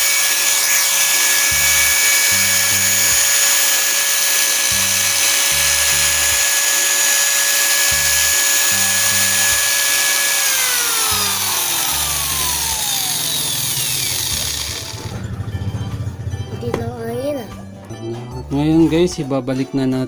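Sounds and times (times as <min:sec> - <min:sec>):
angle grinder whining: 0:00.0 - 0:16.7.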